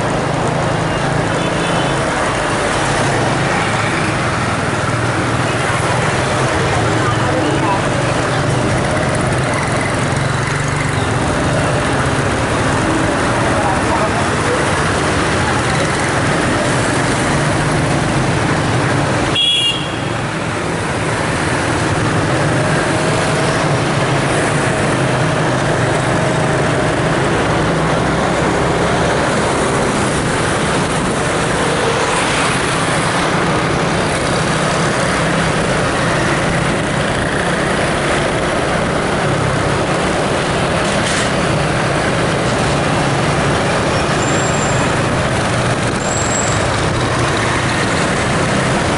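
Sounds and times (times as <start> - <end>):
road traffic noise: 0.0 - 48.9.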